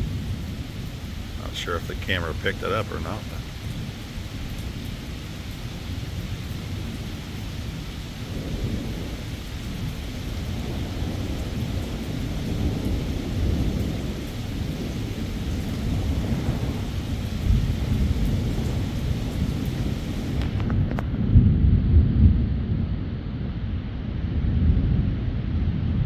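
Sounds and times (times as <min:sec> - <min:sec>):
rain falling: 0:00.0 - 0:21.3
rolling thunder: 0:00.0 - 0:23.6.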